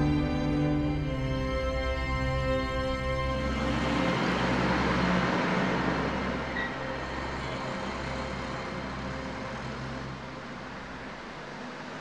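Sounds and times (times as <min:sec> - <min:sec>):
minivan driving past: 0:00.0 - 0:12.0.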